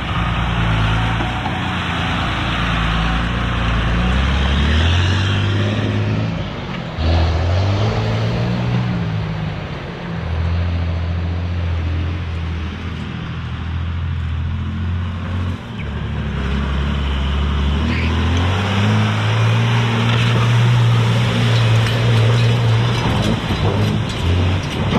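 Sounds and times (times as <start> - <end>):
diesel engine revving: 0.0 - 24.9.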